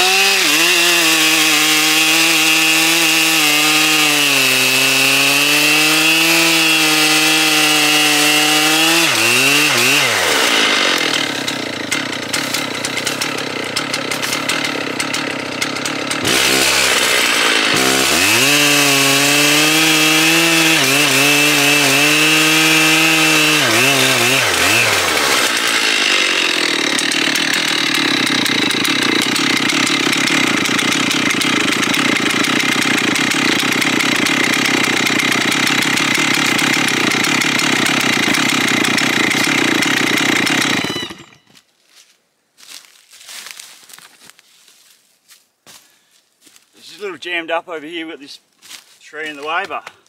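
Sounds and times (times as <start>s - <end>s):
chainsaw cutting log: 0.0s - 41.6s.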